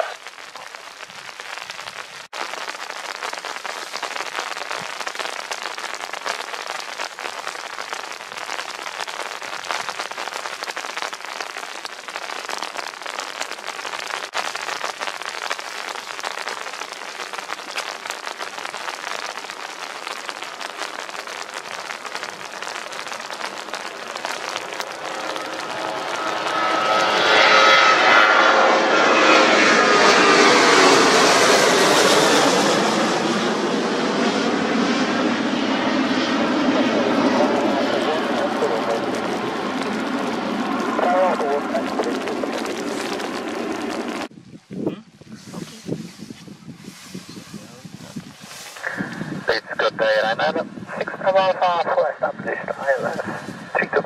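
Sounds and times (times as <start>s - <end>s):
heavy rain: 0.0s - 44.4s, 45.4s - 54.0s.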